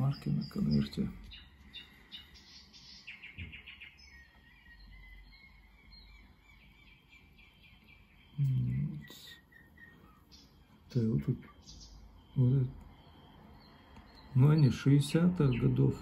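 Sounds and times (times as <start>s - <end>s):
small bird chirps: 0.0s - 16.0s.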